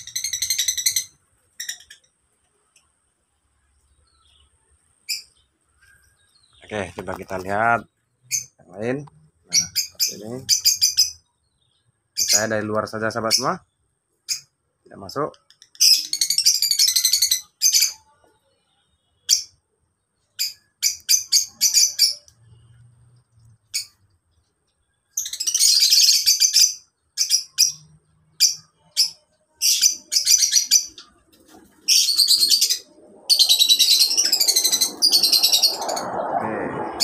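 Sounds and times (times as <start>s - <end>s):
lovebirds chirping: 0.0s - 37.0s.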